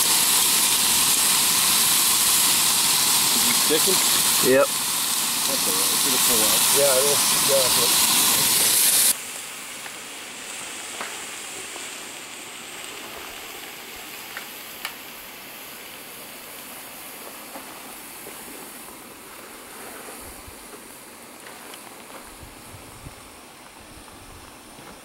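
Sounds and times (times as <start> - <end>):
steaks sizzling on grill: 0.0 - 22.6.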